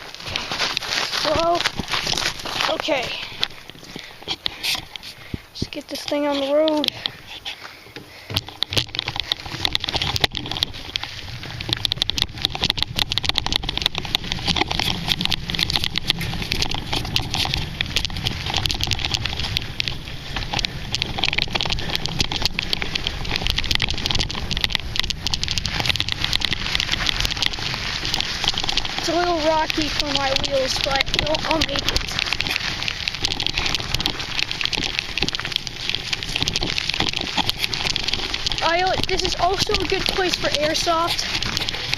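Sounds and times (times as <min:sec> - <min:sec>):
bicycle tyres rattling on stones: 0:00.0 - 0:41.9
wind rumble on microphone: 0:08.3 - 0:41.9.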